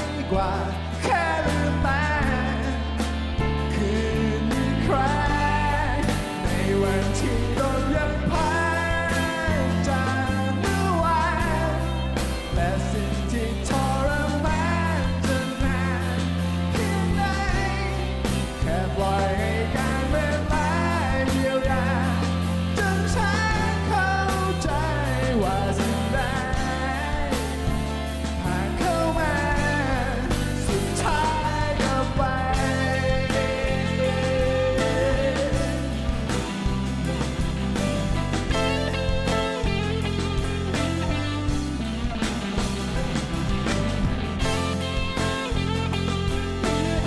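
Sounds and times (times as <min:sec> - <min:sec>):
man singing: 0:00.0 - 0:37.2, 0:44.4 - 0:47.0
bass guitar: 0:00.0 - 0:47.0
drums: 0:00.0 - 0:47.0
electric guitar: 0:00.0 - 0:47.0.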